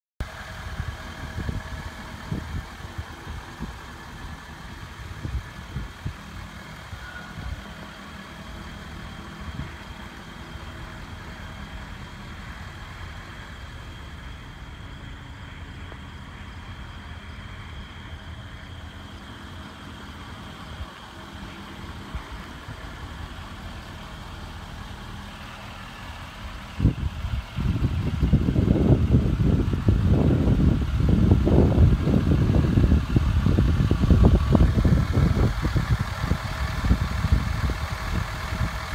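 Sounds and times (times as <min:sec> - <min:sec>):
truck engine idling: 0:00.2 - 0:38.9.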